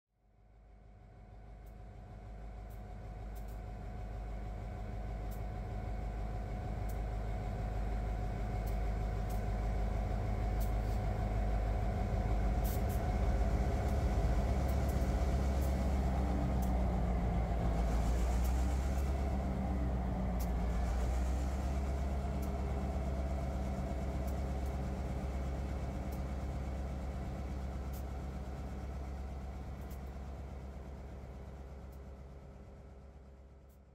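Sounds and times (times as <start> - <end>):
diesel locomotive engines droning: 0.4 - 33.9.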